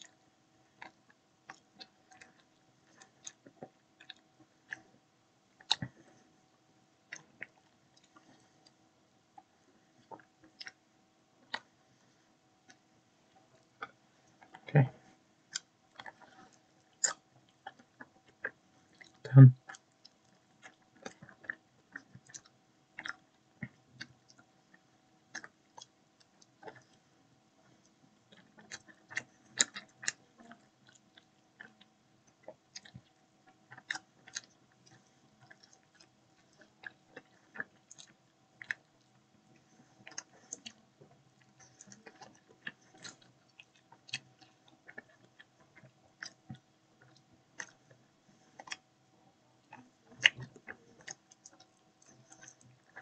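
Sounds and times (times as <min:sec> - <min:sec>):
person chewing food: 0:00.0 - 0:04.9, 0:05.5 - 0:06.4, 0:07.1 - 0:10.8, 0:11.4 - 0:49.0, 0:49.6 - 0:53.0
faint steady hum: 0:00.0 - 0:53.0.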